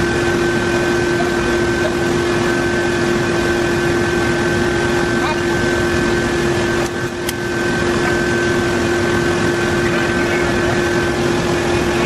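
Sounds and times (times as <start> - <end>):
machinery drone with hum: 0.0 - 12.0.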